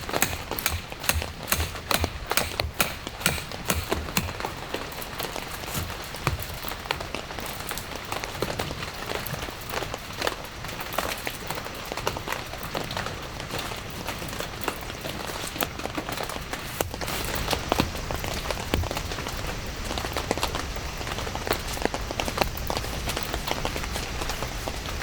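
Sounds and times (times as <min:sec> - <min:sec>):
raindrops tapping on a surface: 0:00.1 - 0:25.0.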